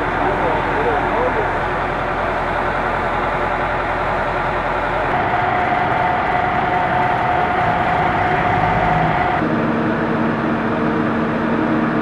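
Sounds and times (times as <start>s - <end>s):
engine-like running noise: 0.0s - 12.0s.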